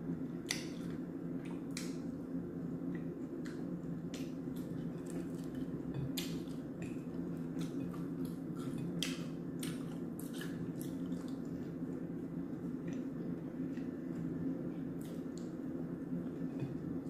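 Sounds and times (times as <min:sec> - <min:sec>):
steady low hum: 0:00.0 - 0:17.0
chewing fried chicken: 0:02.8 - 0:17.0.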